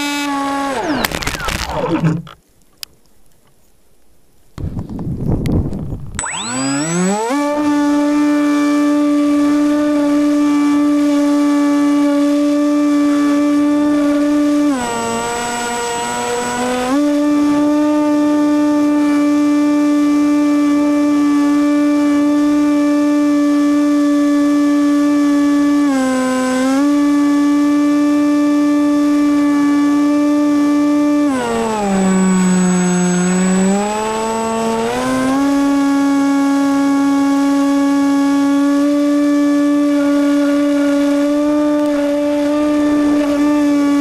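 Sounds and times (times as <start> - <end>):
model plane motor droning: 0.0 - 2.4, 6.1 - 44.0.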